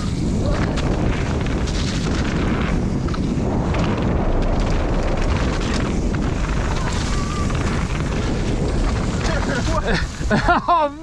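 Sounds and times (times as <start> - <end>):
bike clicks and rattles: 0.0 - 10.7
tyres rolling on dirt: 0.0 - 11.0
wind buffeting microphone: 0.0 - 11.0.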